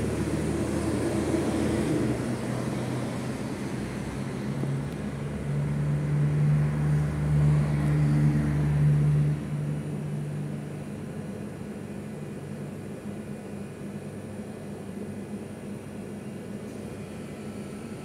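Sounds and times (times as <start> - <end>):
engine running with low hum: 0.0 - 18.0.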